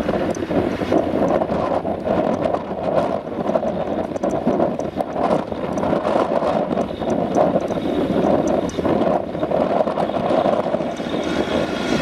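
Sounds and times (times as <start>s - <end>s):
tractor running: 0.0s - 12.0s.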